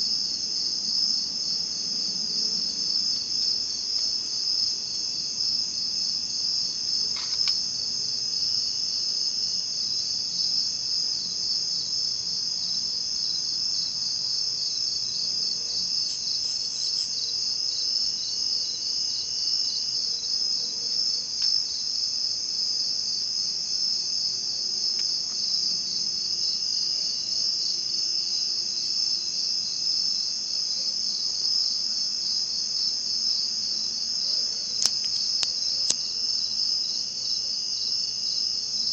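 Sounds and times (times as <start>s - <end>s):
faint lower insect trill: 0.0s - 38.9s
high-pitched pulsing insect trill: 0.0s - 38.9s.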